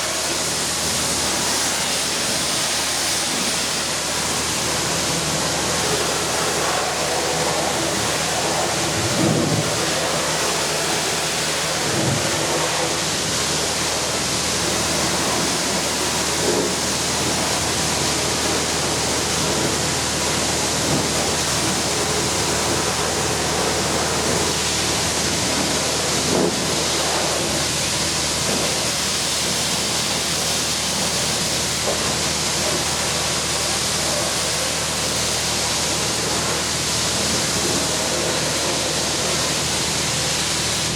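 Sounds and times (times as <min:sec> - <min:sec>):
low pump hum: 0:00.0 - 0:40.9
pressure washer spraying water: 0:00.0 - 0:40.9.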